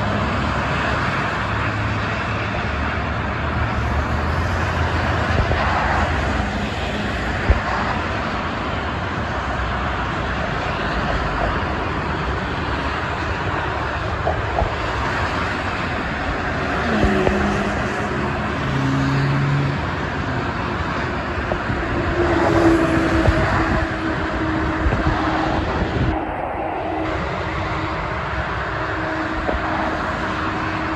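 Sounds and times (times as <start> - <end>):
expressway traffic passing: 0.0 - 30.9
vehicle engine humming tones: 0.0 - 30.9.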